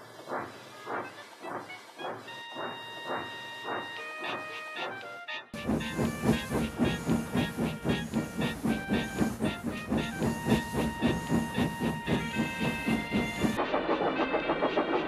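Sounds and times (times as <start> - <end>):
hissing steam: 0.0 - 4.5, 5.6 - 13.6
steam locomotive chuffing: 0.0 - 5.0, 5.6 - 13.7.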